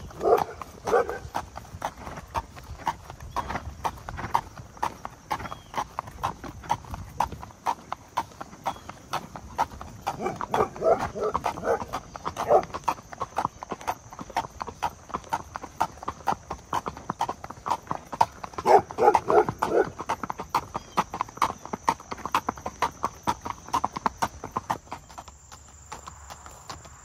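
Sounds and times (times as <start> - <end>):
horse hooves on paved road: 0.0 - 27.0.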